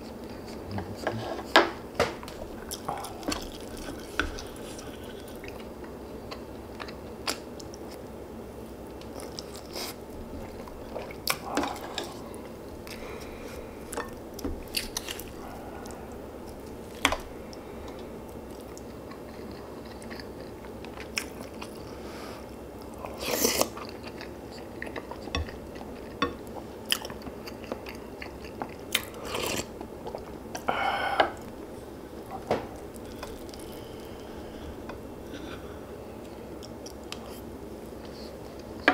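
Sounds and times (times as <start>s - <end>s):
chewing and crunching: 2.2s - 8.1s, 8.9s - 22.0s, 22.7s - 30.7s, 31.3s - 38.9s.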